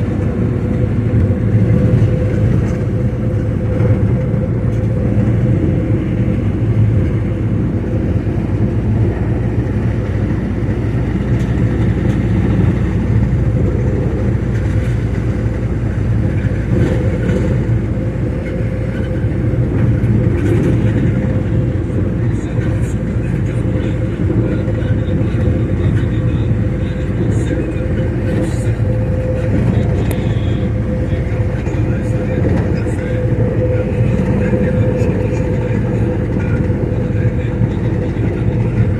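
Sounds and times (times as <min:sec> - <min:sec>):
motor vehicle engine running: 0:00.0 - 0:38.9.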